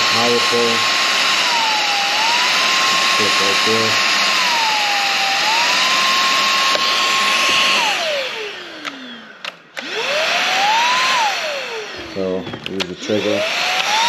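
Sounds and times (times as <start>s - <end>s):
vacuum motor whining: 0.0s - 14.0s.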